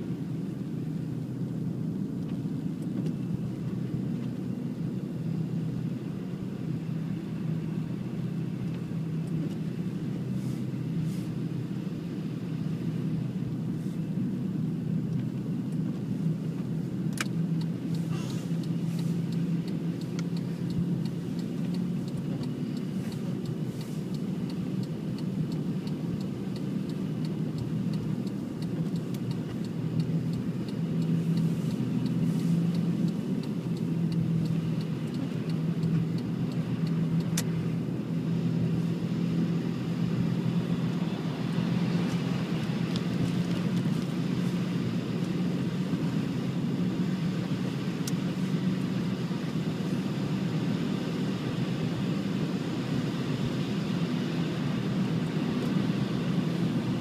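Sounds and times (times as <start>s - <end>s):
car engine hum: 0.0s - 57.0s
road noise: 0.0s - 57.0s.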